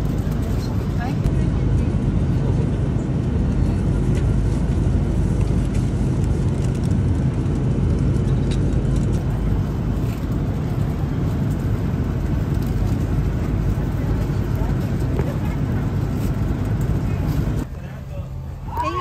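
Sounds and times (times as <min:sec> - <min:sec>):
road and engine noise in car: 0:00.0 - 0:19.0.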